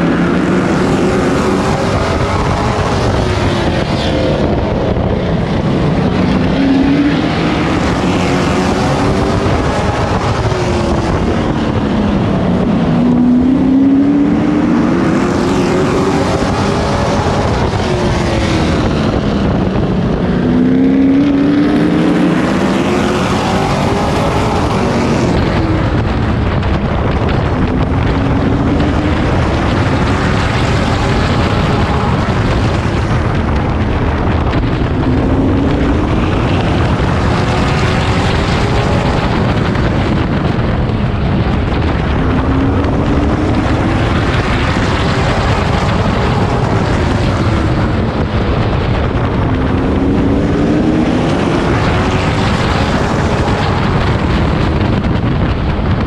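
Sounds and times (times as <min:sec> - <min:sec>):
race truck engine revving: 0:00.0 - 0:56.0
wind and road noise: 0:00.0 - 0:56.0.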